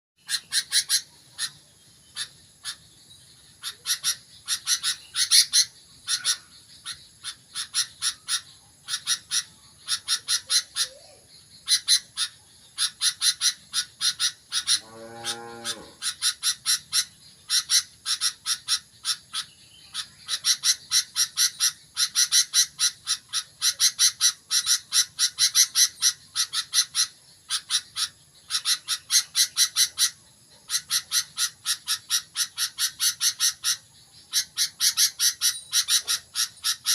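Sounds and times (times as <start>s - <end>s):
bulbul chirping: 0.2s - 36.9s.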